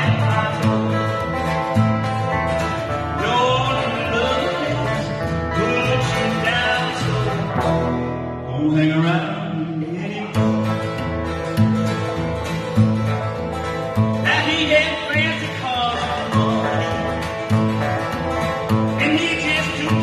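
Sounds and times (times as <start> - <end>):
guitar melody bending in pitch: 0.0 - 20.0
low bass notes: 0.0 - 20.0.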